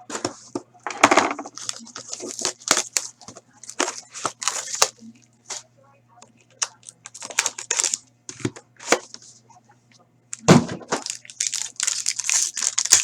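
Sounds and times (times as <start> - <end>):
packaging crinkling and rustling: 0.0 - 5.6, 6.6 - 9.2, 10.3 - 13.0.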